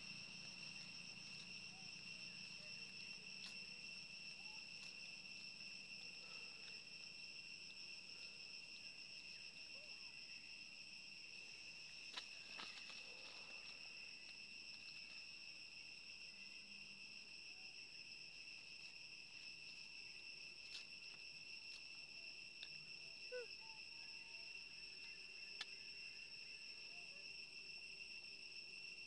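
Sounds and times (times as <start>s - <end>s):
high-pitched insect trill: 0.0s - 29.0s.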